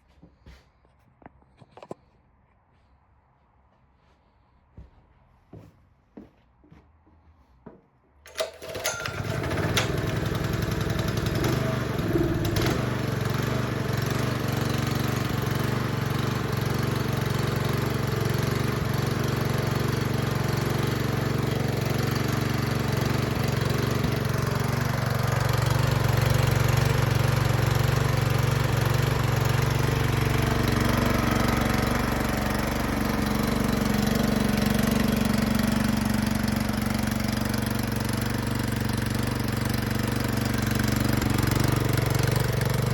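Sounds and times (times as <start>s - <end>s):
small engine starting and running: 8.3s - 42.9s.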